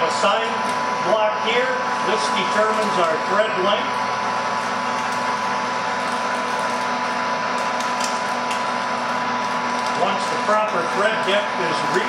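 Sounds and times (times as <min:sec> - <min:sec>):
pipe threading machine running: 0:00.0 - 0:12.0.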